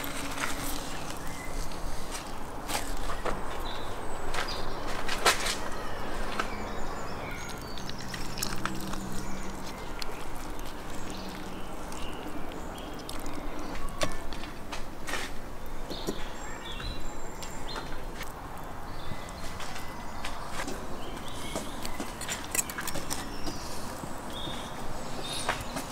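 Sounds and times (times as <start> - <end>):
outdoor background: 0.0 - 25.9.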